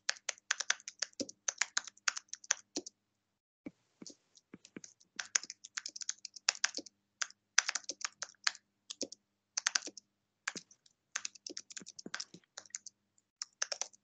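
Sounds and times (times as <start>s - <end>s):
typing on computer keyboard: 0.0s - 2.9s, 4.8s - 14.0s.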